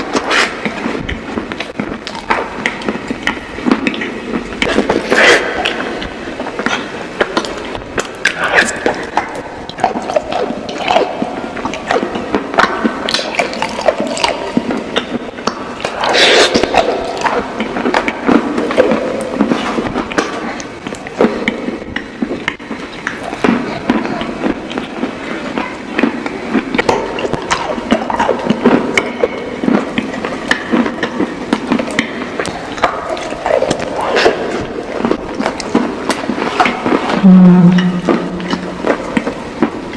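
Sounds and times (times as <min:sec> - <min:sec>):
chewing with crunches: 0:00.0 - 0:39.9
wet mouth sounds: 0:00.0 - 0:39.9.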